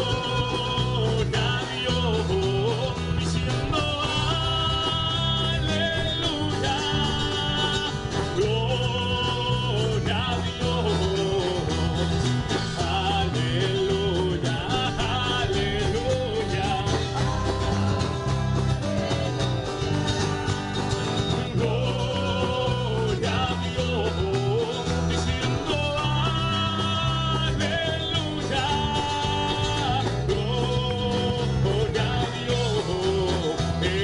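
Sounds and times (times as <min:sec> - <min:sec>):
drum kit: 0:00.0 - 0:34.0
electric guitar: 0:00.0 - 0:34.0
person singing: 0:00.0 - 0:34.0.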